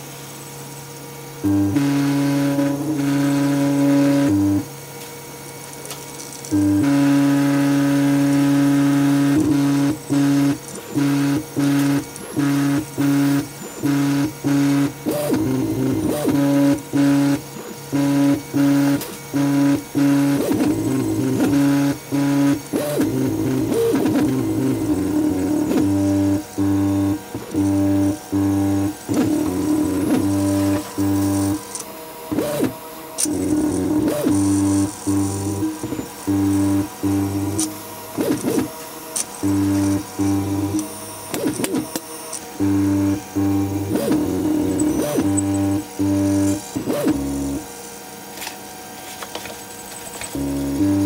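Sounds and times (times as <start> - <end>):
stepper motors whining tones: 6.4 - 47.8, 49.3 - 51.0.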